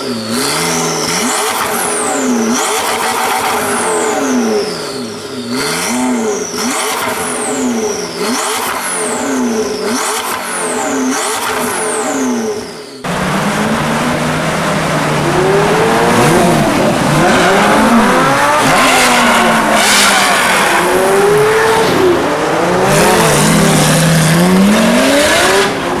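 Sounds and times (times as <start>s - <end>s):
car engines idling and revving: 0.0s - 26.0s.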